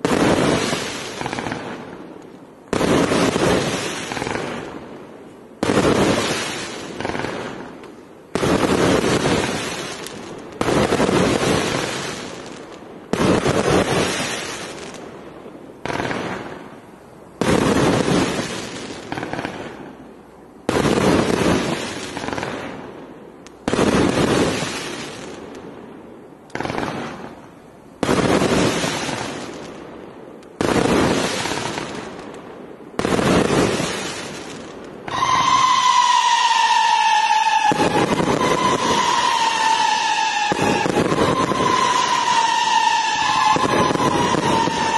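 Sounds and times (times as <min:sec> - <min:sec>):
firework shots with crackling tail: 0:00.0 - 0:44.9.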